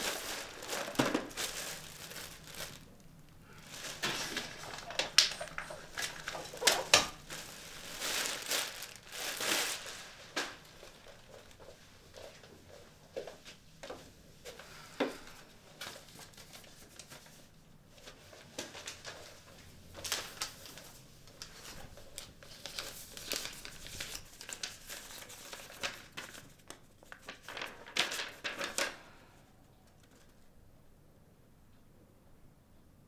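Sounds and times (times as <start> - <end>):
paper crinkling and rustling: 0.0 - 14.0, 15.2 - 29.2, 29.8 - 30.5.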